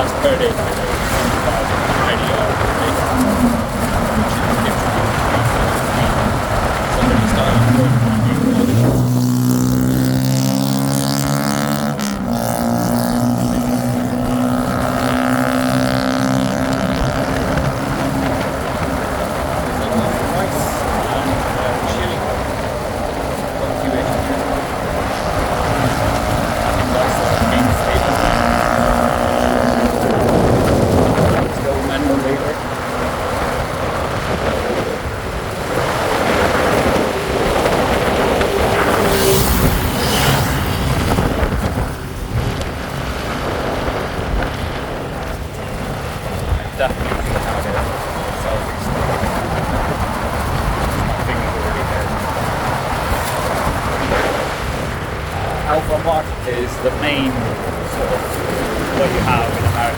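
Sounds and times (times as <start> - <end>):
motorbike engine running: 0.0 - 59.9
road noise: 0.0 - 59.9
wind rushing over microphone: 0.0 - 59.9.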